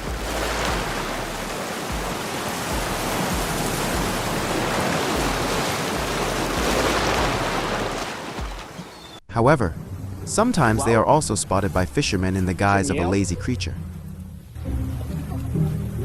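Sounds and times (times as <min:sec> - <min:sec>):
sea water rushing and splashing: 0:00.0 - 0:09.2, 0:10.3 - 0:16.0.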